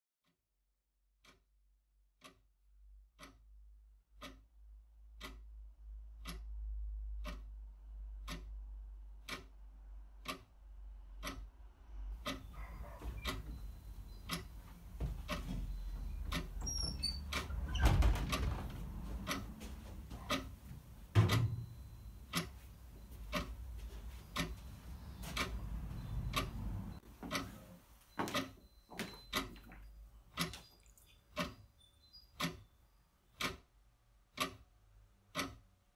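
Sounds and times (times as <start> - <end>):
clock ticking: 1.2 - 1.4, 2.2 - 32.7, 33.3 - 33.7, 34.3 - 35.9.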